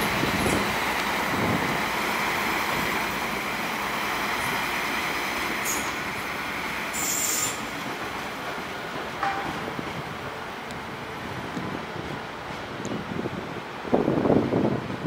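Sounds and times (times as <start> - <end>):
train rumbling along tracks: 0.0 - 15.0.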